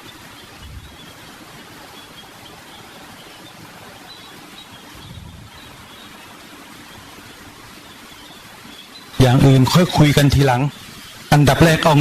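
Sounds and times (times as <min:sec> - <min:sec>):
faint high chirping: 0:00.0 - 0:10.9
steady background hiss: 0:00.0 - 0:12.0.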